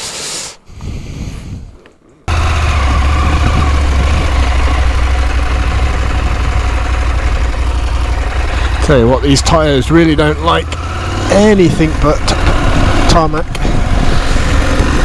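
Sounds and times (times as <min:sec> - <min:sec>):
motorcycle engine running: 0:02.3 - 0:15.0.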